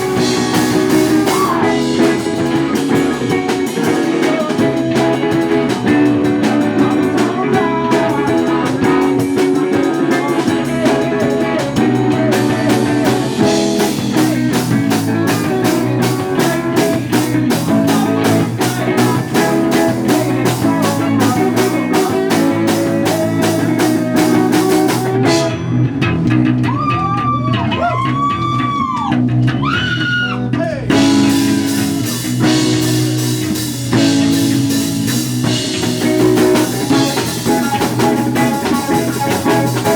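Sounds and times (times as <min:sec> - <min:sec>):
bass guitar: 0:00.0 - 0:39.9
drum kit beat: 0:00.0 - 0:39.9
electric guitar: 0:00.0 - 0:39.9.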